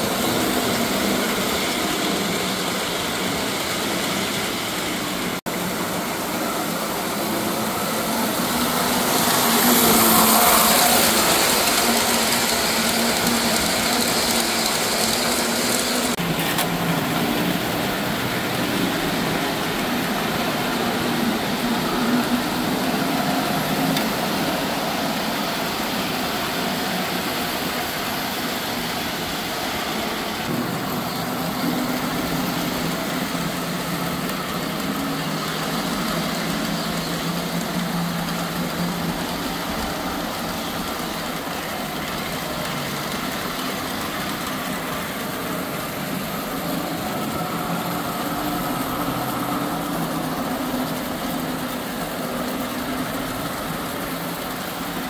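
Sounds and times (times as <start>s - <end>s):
electric toy trains whirring and rumbling: 0.0s - 55.0s.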